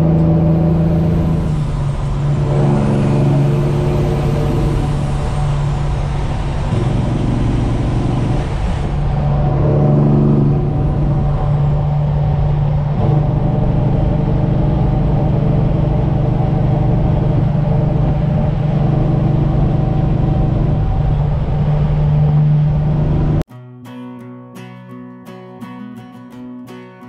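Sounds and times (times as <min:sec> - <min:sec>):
truck diesel engine droning: 0:00.0 - 0:23.4.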